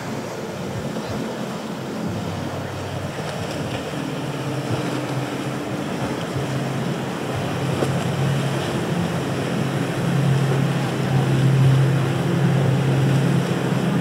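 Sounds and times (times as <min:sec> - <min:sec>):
powerboat engines droning: 0:00.0 - 0:14.0
rushing wake and breaking waves: 0:00.0 - 0:14.0.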